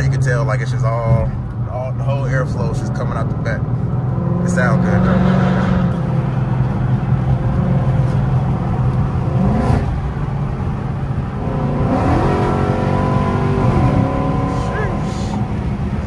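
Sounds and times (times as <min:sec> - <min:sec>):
car exhaust drone: 0:00.0 - 0:16.0.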